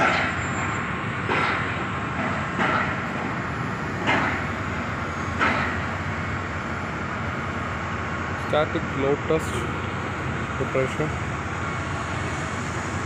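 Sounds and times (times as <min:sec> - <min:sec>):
heavy construction machinery rumbling: 0:00.0 - 0:13.0.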